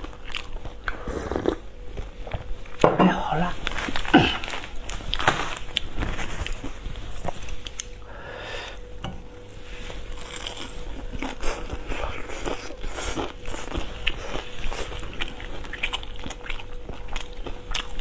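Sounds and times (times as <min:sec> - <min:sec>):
chewing and crunching food: 0:00.0 - 0:02.8, 0:03.6 - 0:08.0, 0:09.8 - 0:18.0.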